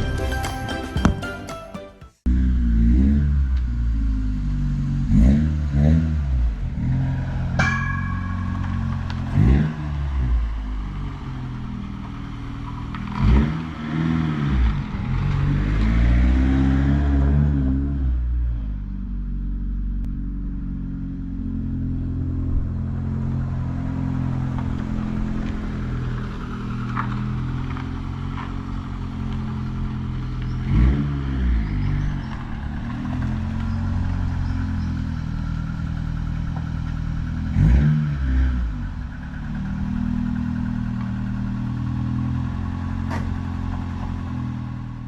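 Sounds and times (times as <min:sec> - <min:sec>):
car engine revving: 0:02.3 - 0:45.0.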